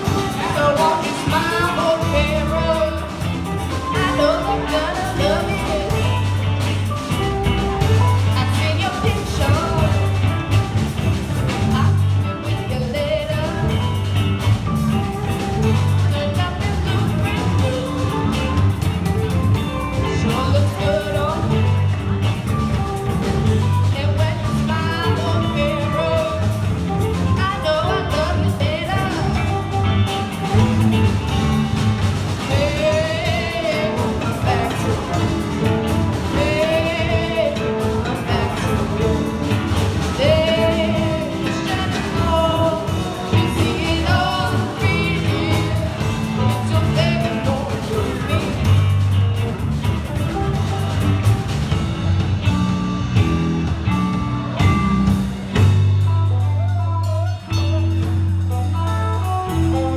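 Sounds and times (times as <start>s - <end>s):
live rock band: 0.0s - 59.9s.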